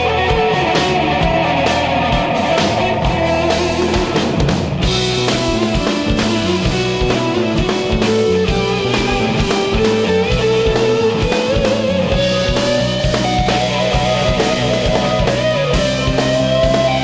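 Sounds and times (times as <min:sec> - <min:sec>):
bass: 0:00.0 - 0:17.0
electric guitar lead: 0:00.0 - 0:17.0
steady drum beat: 0:00.0 - 0:17.0.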